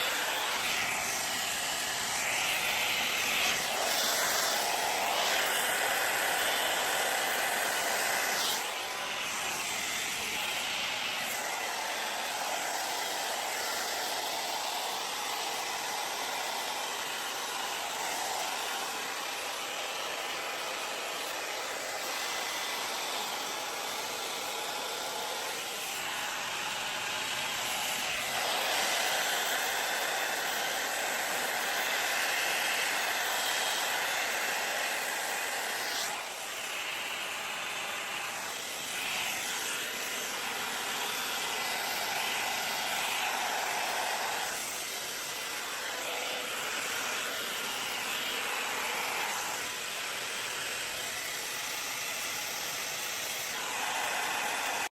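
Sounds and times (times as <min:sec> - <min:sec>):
hot air brush blowing: 0:00.0 - 0:54.9.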